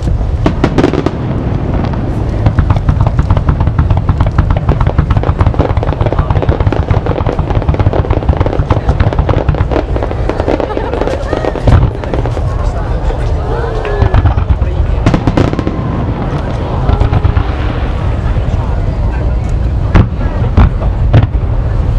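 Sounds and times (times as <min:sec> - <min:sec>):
fireworks crackling and popping: 0:00.0 - 0:21.9
low rumble: 0:00.0 - 0:21.9.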